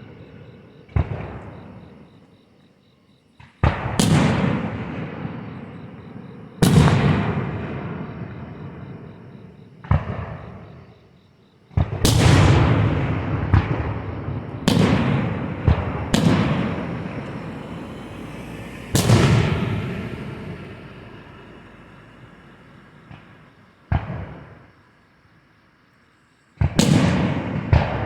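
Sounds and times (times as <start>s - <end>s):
fireworks bangs with echoing rumble: 0.0s - 2.2s, 3.4s - 11.0s, 11.7s - 24.8s, 26.6s - 28.0s.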